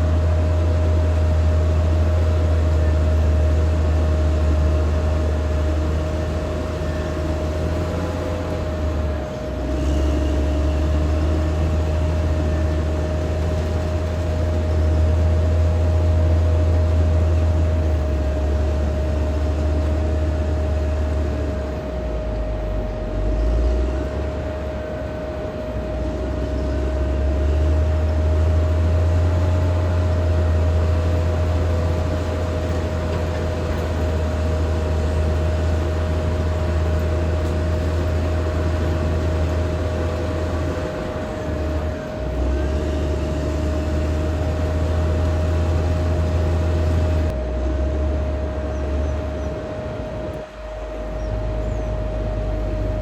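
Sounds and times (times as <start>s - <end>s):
bulldozer diesel engine rumble: 0.0s - 53.0s
steady engine whine: 0.0s - 53.0s.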